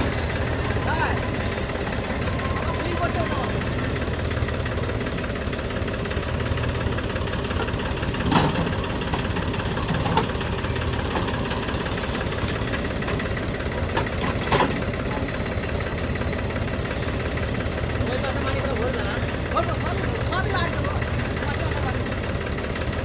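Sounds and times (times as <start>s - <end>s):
heavy machinery diesel engine: 0.0s - 23.0s.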